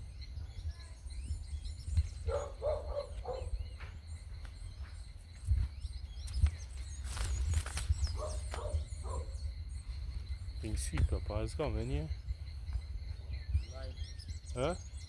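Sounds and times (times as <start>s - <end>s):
high insect drone: 0.0s - 15.0s
small birds chirping: 0.0s - 15.0s.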